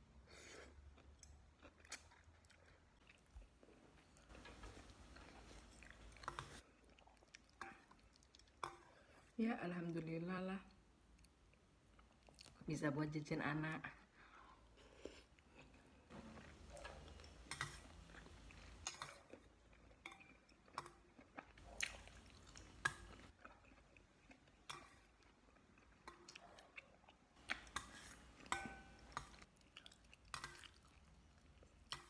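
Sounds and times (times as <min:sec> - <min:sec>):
person chewing food: 0:00.4 - 0:09.3, 0:11.1 - 0:12.6, 0:14.3 - 0:32.0.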